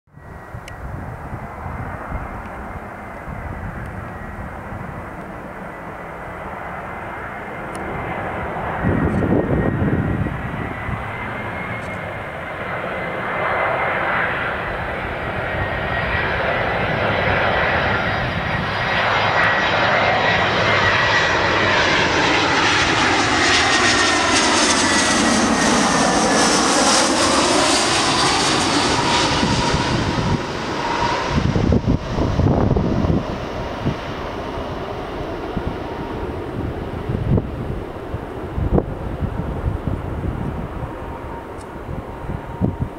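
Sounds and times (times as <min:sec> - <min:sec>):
jet airliner engines whining: 0:00.2 - 0:42.9.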